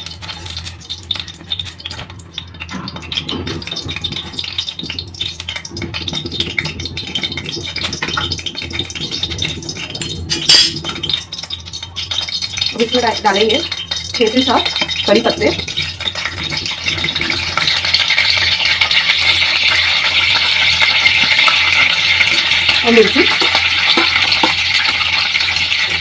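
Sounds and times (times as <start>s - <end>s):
hot oil crackling and spitting: 0.0s - 26.0s.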